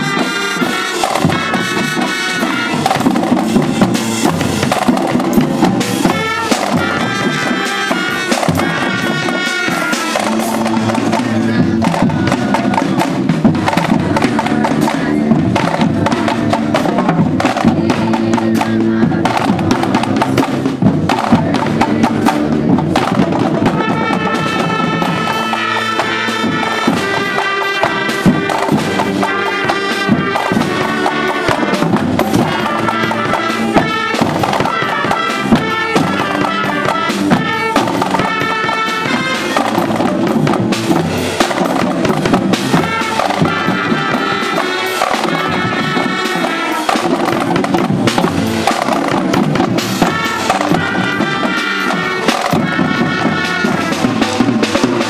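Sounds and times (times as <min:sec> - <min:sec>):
drums keeping the beat: 0:00.0 - 0:55.0
marching band woodwinds melody: 0:00.0 - 0:55.0.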